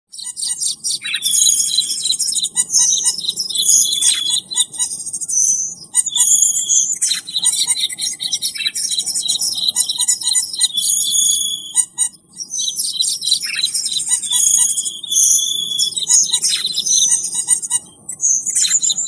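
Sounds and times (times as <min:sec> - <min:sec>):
bird chirps and trills: 0:00.1 - 0:19.0
lower repeated bird notes: 0:00.1 - 0:19.0.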